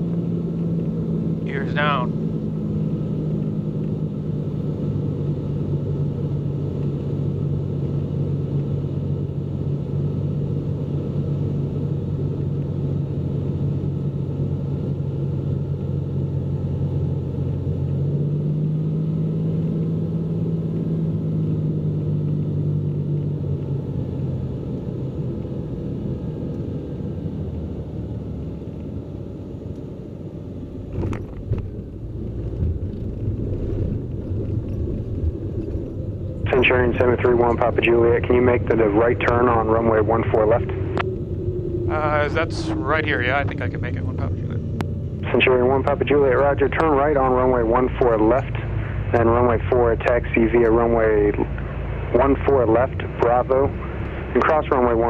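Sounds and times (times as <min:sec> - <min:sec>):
aircraft engine and propeller droning: 0:00.0 - 0:55.0.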